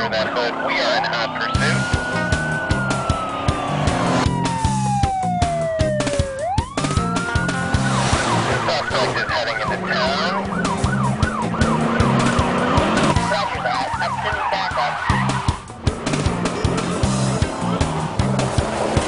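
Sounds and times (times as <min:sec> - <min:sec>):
police siren: 0:00.0 - 0:15.7
background music with steady beat: 0:01.5 - 0:19.0.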